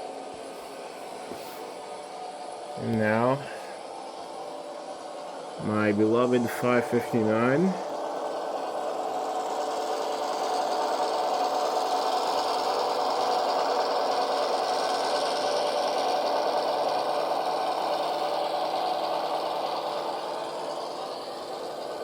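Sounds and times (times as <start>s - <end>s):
mechanical whir: 0.0s - 22.0s
model locomotive diesel engine sound: 0.0s - 22.0s.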